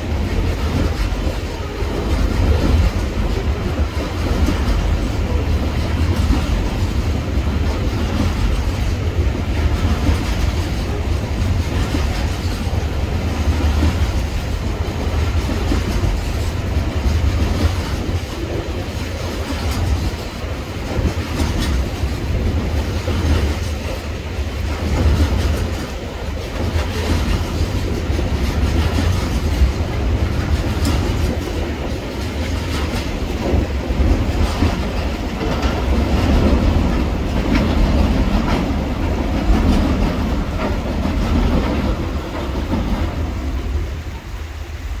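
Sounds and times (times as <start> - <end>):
train wheel clicks: 0.0 - 44.3
train rumbling over bridge: 0.0 - 45.0.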